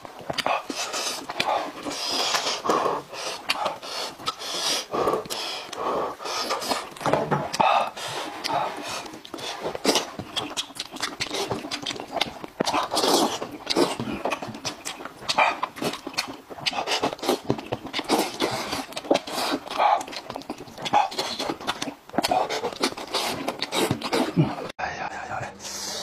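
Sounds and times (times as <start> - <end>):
wet chewing and slurping: 0.0 - 24.7.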